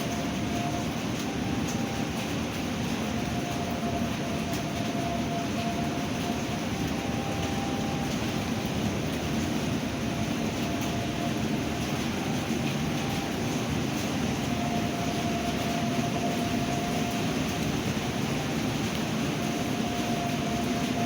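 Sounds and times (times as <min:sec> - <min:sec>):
heavy rain: 0:00.0 - 0:21.0
storm wind: 0:00.0 - 0:21.0.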